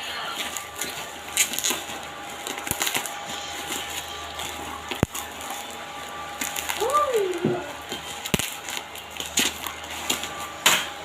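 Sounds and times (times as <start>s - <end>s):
packaging crackling and rustling: 0.0s - 11.0s.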